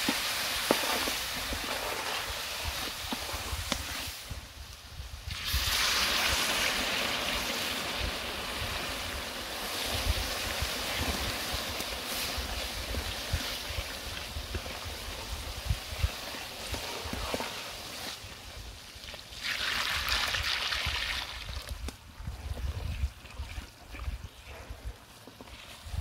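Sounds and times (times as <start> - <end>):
mixture hissing and sizzling: 0.0 - 21.8.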